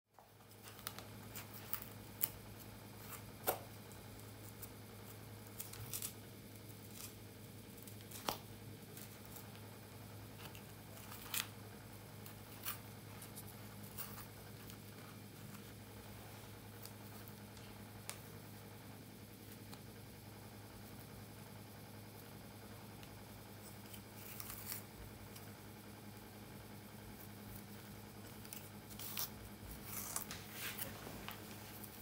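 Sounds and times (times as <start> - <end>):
steady low hum: 0.2 - 32.0.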